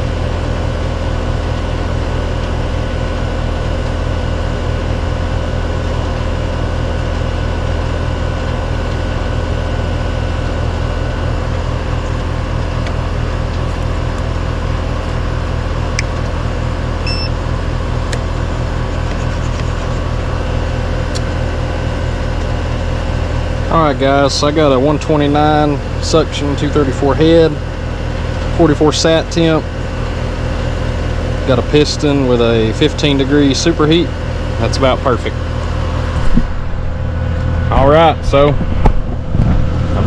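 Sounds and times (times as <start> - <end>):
air conditioner unit humming: 0.0 - 40.0.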